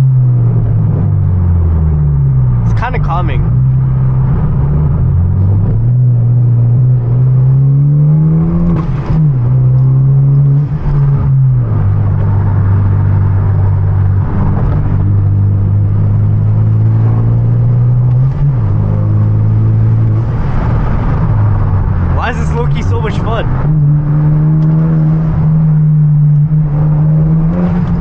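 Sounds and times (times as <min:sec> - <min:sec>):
car engine revving from cabin: 0:00.0 - 0:28.0.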